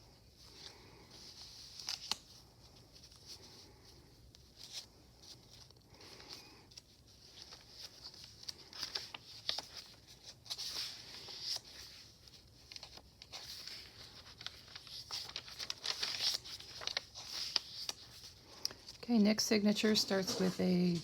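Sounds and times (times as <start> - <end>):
paper pages rustling and crinkling: 0.0 - 21.0.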